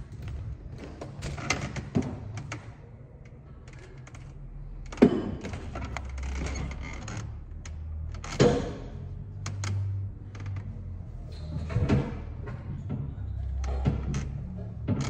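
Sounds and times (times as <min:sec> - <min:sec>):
belongings clicking and clattering: 0:00.0 - 0:15.0.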